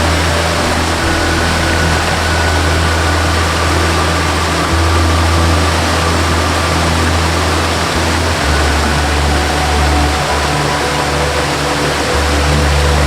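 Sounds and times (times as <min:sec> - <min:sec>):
slow melody of held notes: 0:00.0 - 0:13.0
waterfall rushing: 0:00.0 - 0:13.0.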